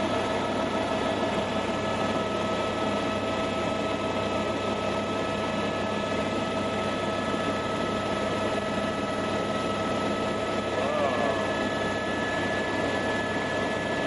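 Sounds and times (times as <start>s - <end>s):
constant whine: 0.0s - 14.0s
helicopter cabin noise: 0.0s - 14.0s.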